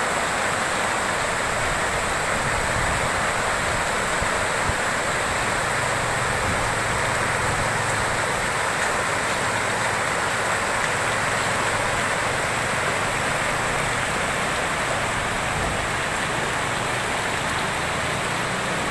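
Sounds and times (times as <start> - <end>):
floodwater rushing: 0.0 - 18.9.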